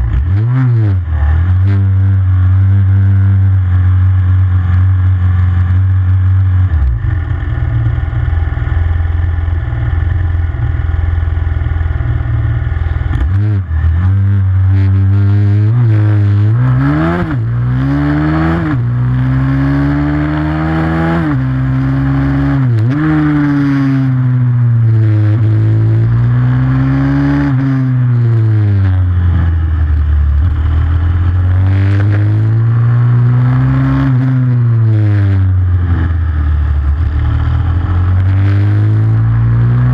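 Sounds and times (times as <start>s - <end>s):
motorbike engine revving: 0.0s - 4.2s, 11.6s - 39.9s.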